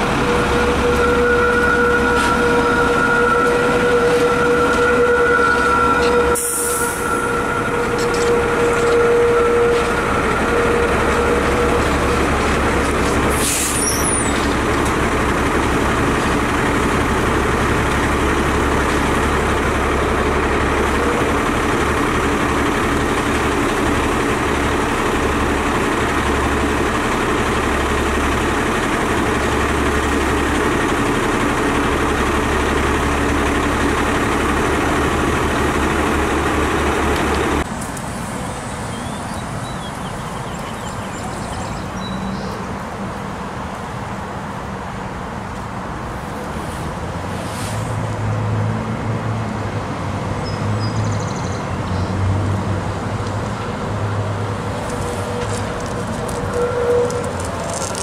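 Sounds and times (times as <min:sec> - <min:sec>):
streetcar wheel squeal: 0:00.0 - 0:37.7, 0:38.3 - 0:42.8, 0:53.4 - 0:58.0
streetcar running on track: 0:00.0 - 0:58.0.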